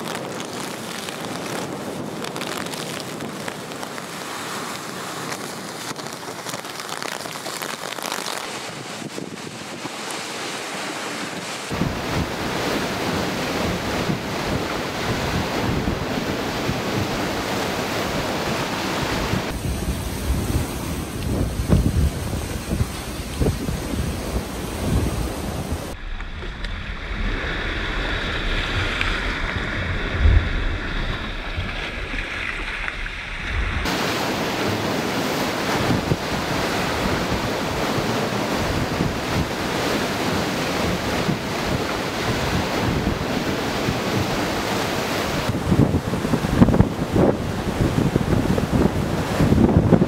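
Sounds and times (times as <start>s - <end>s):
heavy surf: 0.0s - 50.0s
waves breaking against a dock: 0.0s - 50.0s
wind buffeting the microphone: 8.6s - 50.0s.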